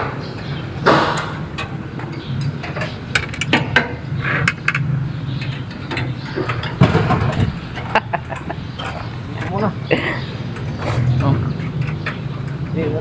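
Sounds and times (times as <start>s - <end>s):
bolts clinking on metal panel: 0.0s - 13.0s.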